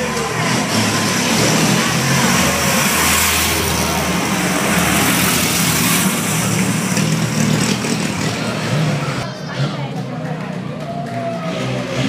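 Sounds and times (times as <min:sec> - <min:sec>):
car engines passing: 0:00.0 - 0:12.0.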